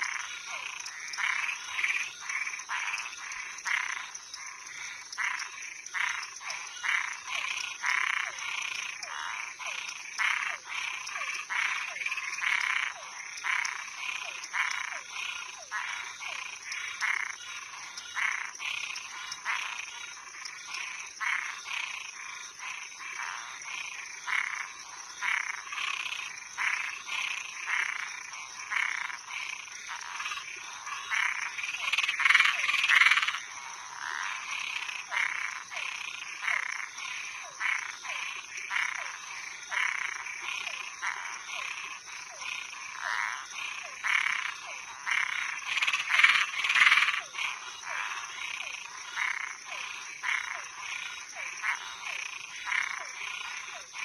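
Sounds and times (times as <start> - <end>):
frogs calling: 0.0 - 54.0
steady high insect trill: 0.0 - 54.0.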